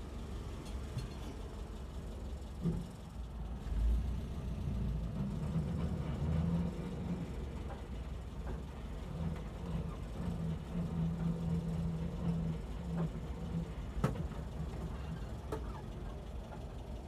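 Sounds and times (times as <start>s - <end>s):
car engine droning in cab: 0.0s - 17.0s.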